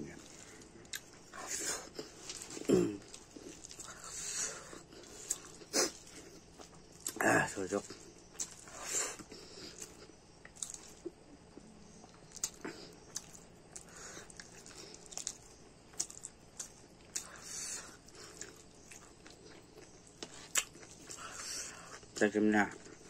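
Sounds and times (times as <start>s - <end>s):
wet chewing: 0.2s - 23.0s.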